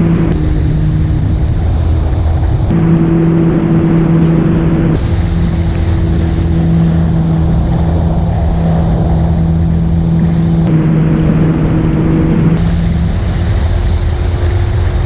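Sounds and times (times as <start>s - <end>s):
personal watercraft engine humming: 0.0s - 15.0s
wind noise on microphone: 0.0s - 15.0s.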